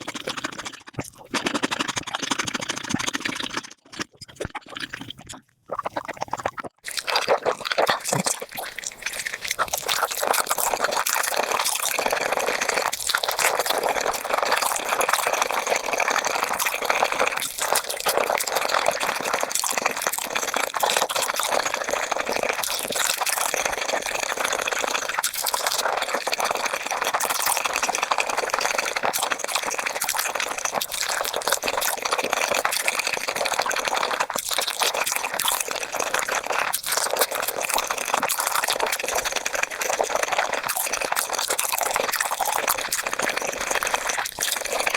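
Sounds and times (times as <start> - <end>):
sped-up chewing crackle: 0.0 - 44.9.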